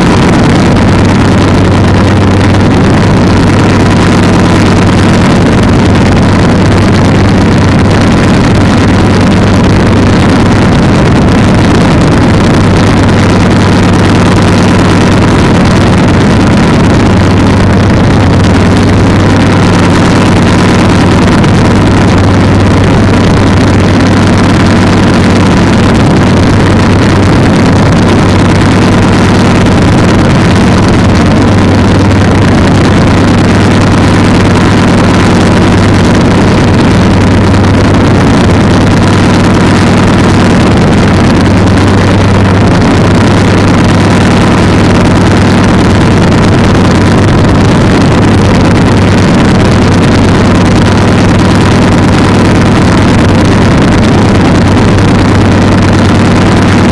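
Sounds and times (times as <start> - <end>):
heavy rushing noise: 0.0 - 56.9
two-stroke engine running: 0.0 - 56.9.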